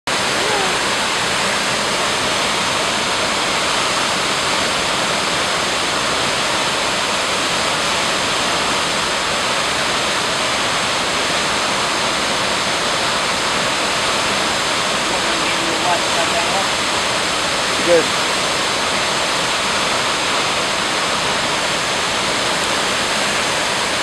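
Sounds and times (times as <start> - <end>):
waterfall rushing: 0.1 - 24.0.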